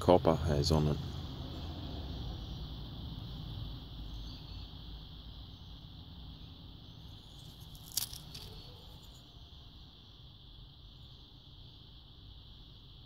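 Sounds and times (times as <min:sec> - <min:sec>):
high insect chirring: 0:00.0 - 0:13.0.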